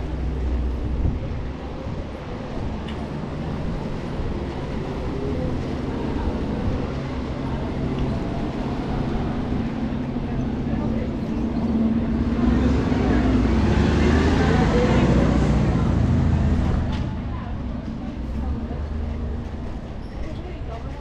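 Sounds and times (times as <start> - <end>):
city street noise: 0.0 - 21.0.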